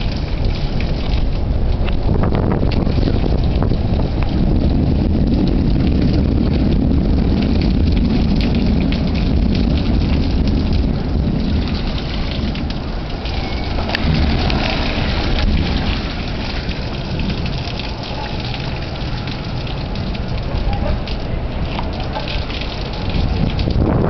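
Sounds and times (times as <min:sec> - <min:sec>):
heavy rain pouring: 0:00.0 - 0:24.0
thunder rumbling: 0:00.0 - 0:24.0.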